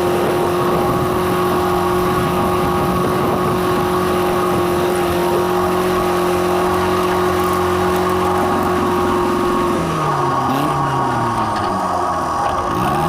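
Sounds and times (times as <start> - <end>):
farm machinery engine droning: 0.0 - 13.0.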